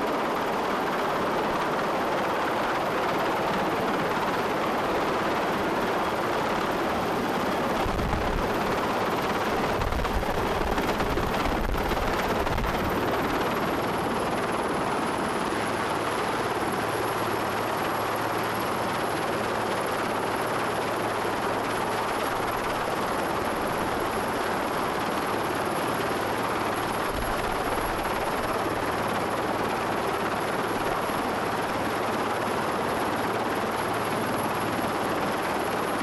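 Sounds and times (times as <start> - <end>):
high turbine whine: 0.0 - 32.8
helicopter rotor wash rumbling: 0.0 - 36.0.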